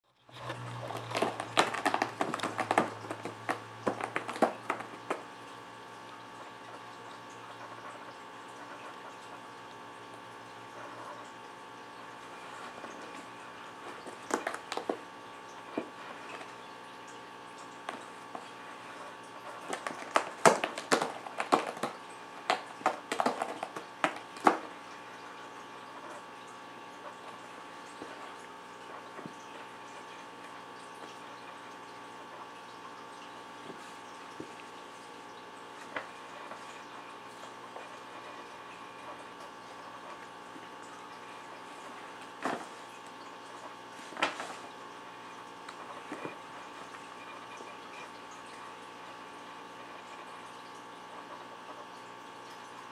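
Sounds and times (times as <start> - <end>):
steady background hum: 0.1 - 52.9.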